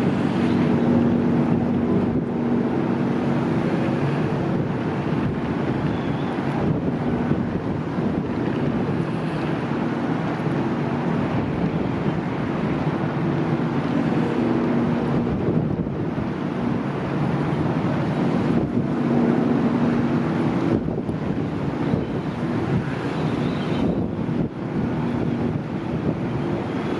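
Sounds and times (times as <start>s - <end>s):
ship engines humming: 0.0s - 26.9s
wind buffeting microphone: 0.0s - 26.9s.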